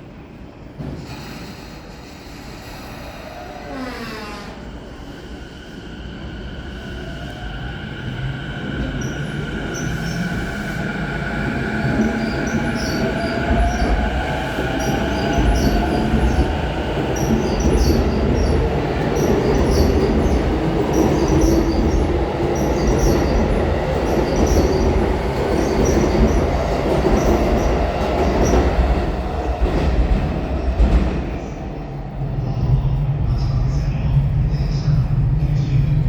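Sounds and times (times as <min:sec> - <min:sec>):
train cars rumbling and clattering: 0:00.0 - 0:36.0.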